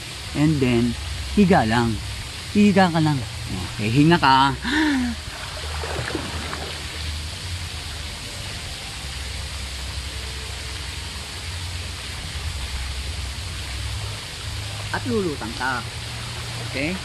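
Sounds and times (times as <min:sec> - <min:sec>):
running pool water: 0:00.0 - 0:17.0.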